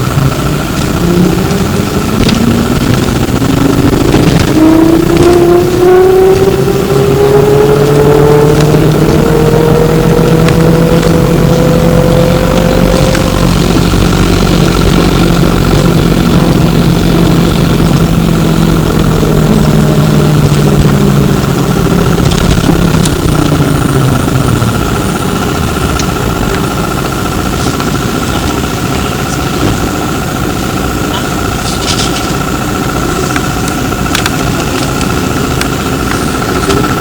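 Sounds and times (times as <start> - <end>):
electric drive hum and whine: 0.0 - 37.0
low motor tone sliding down: 0.0 - 37.0.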